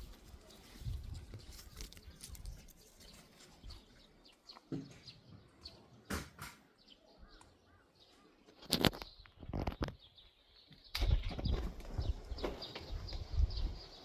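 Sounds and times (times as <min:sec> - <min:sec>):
small birds chirping faintly: 0:00.0 - 0:14.0.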